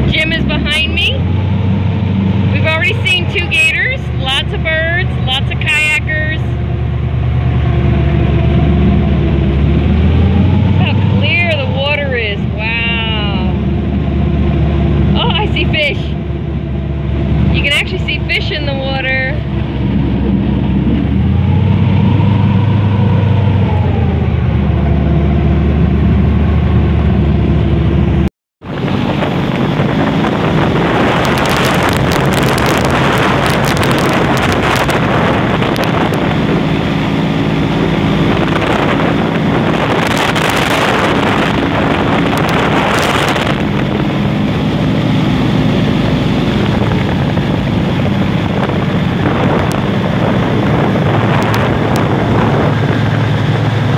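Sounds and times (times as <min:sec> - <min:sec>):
airboat engine and propeller: 0:00.0 - 0:53.9
wind gusting on microphone: 0:00.0 - 0:53.9.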